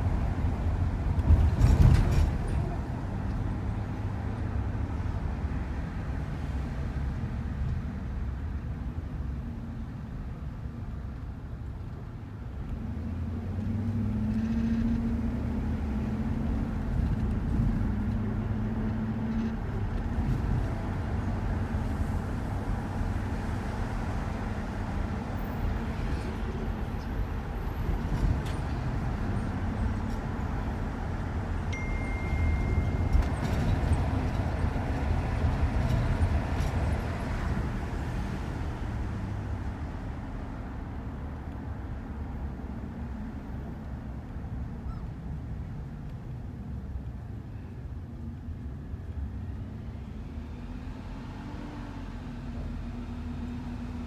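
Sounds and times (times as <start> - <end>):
van road and engine rumble: 0.0 - 54.0.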